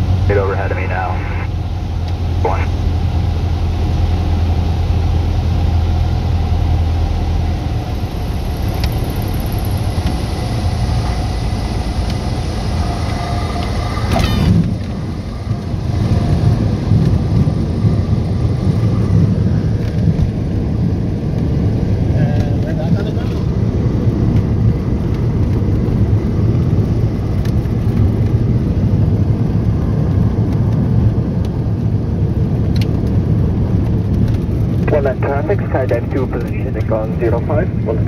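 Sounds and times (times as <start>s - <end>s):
light aircraft engine hum: 0.0s - 38.0s
wheels rumbling on runway: 0.0s - 38.0s.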